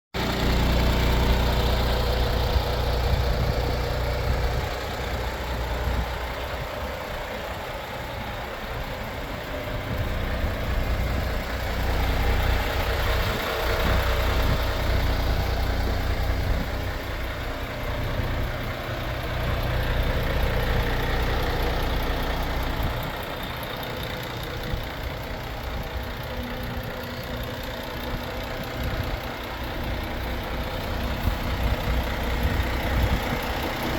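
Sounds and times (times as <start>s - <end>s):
diesel truck idling: 0.2s - 33.9s.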